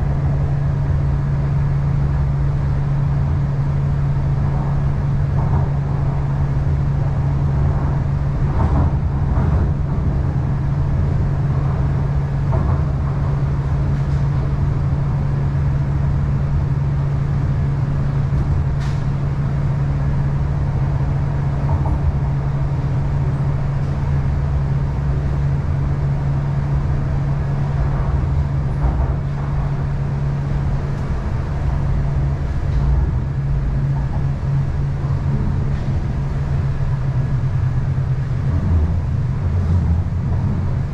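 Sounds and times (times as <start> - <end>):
train low hum: 0.0 - 40.9
wheels rumbling on rail: 0.0 - 40.9.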